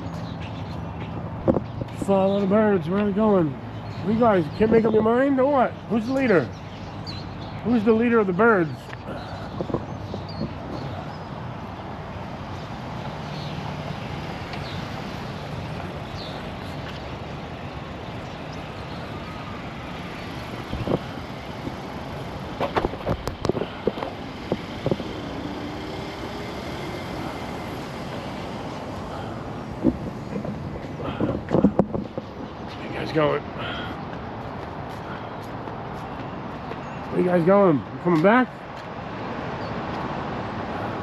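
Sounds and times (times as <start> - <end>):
city traffic rumble: 0.0 - 41.0.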